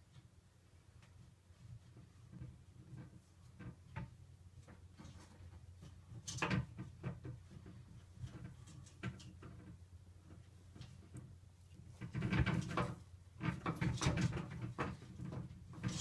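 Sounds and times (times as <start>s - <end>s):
faint knocks and clatter: 0.0s - 16.0s.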